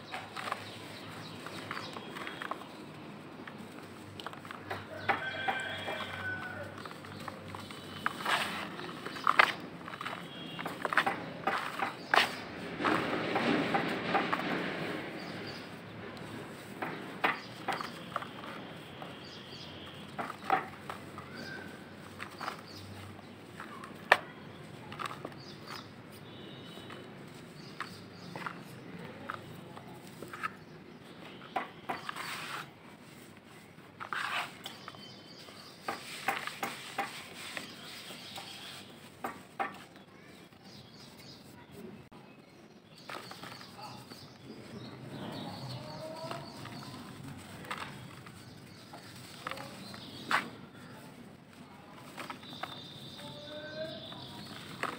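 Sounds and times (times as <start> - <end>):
dry soil crumbling in a bucket: 0.0 - 54.9.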